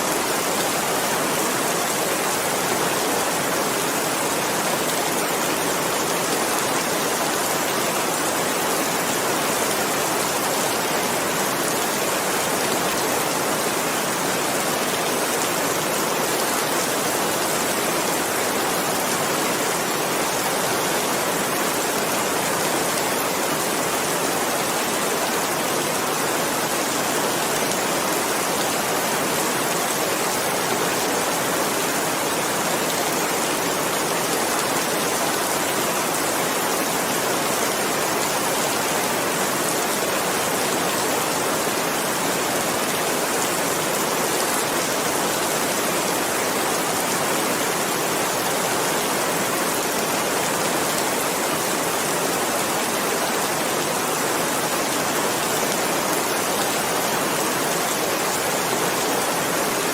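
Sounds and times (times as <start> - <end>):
dense rainfall: 0.0 - 59.9.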